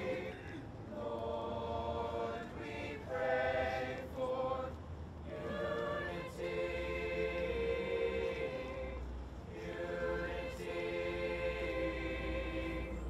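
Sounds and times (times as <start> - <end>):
choir singing in harmony: 0.0 - 13.0.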